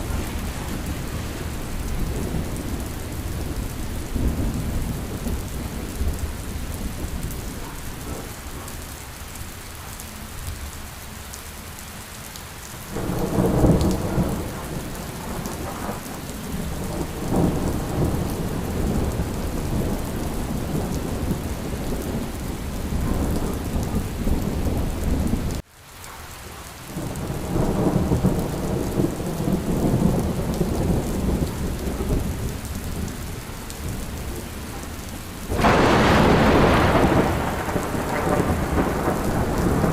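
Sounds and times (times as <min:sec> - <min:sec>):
low rolling thunder: 0:00.0 - 0:09.2, 0:12.9 - 0:25.6, 0:26.9 - 0:39.9
steady rain: 0:00.0 - 0:39.9.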